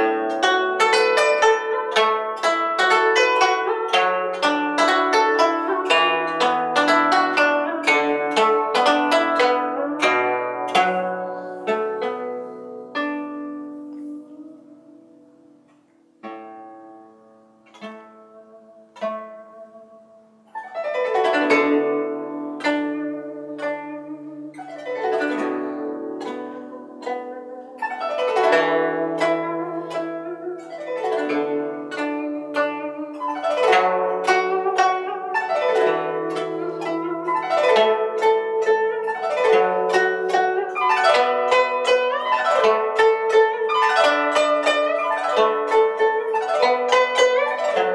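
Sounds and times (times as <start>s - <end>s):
plucked zither notes: 0.0s - 47.9s.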